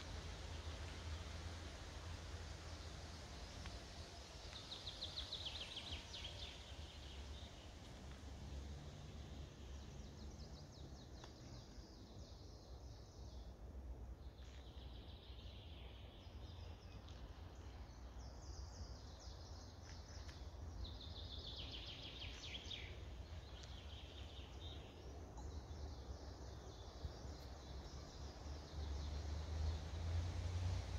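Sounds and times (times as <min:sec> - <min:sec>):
songbirds singing: 0:00.0 - 0:30.9.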